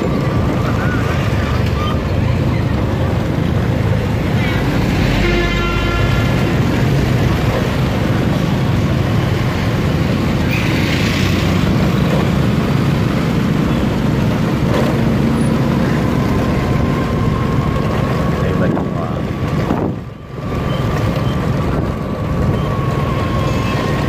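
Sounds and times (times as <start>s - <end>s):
motorbike traffic noise: 0.0s - 24.0s.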